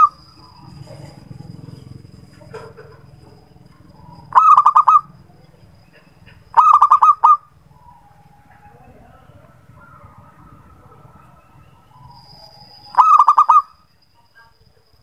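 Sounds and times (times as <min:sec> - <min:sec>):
dove cooing: 0:00.0 - 0:13.7.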